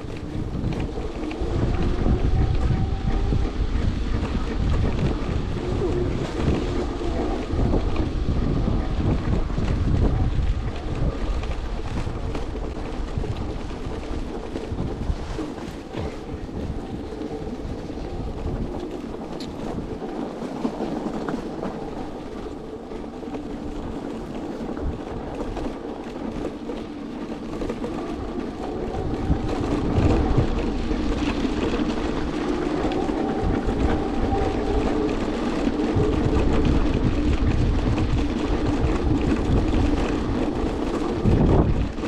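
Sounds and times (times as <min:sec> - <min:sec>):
wheels rumbling: 0:00.0 - 0:42.0
wind buffeting microphone: 0:00.0 - 0:42.0.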